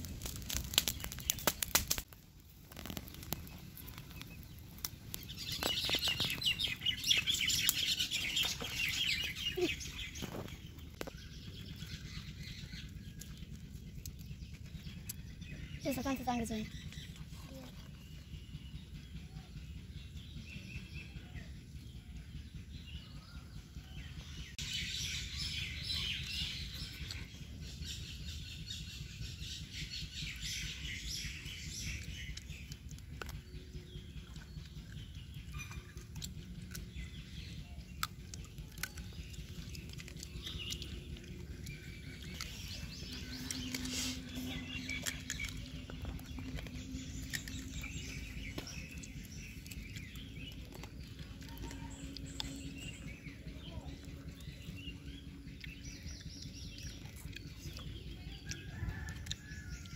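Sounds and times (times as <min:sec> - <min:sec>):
birds chirping: 0:00.0 - 0:59.9
low steady rumble: 0:00.0 - 0:59.9.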